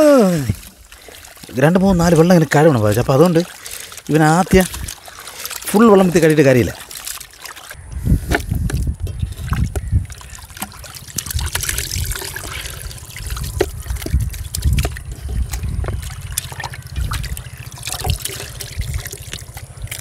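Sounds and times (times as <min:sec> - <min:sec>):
small water splashes: 0:00.0 - 0:20.0
water sloshing in metal bowl: 0:00.4 - 0:20.0.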